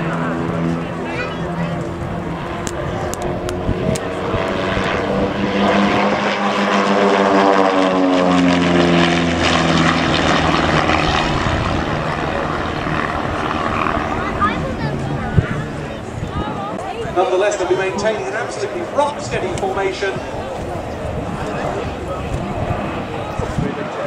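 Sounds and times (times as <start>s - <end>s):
propeller planes flying past: 0.0s - 24.0s.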